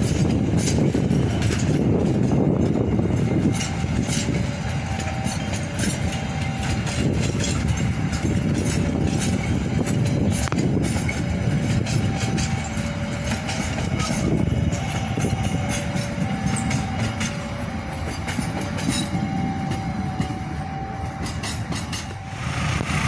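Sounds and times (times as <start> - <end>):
train wheels rumbling on rails: 0.0 - 23.0
wheels clacking over rail joints: 0.0 - 23.0.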